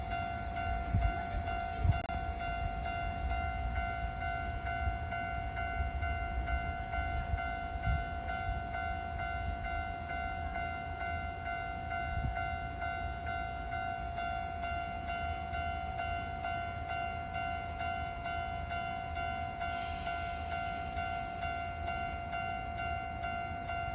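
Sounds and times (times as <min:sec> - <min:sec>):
level-crossing alarm bell: 0:00.0 - 0:23.9.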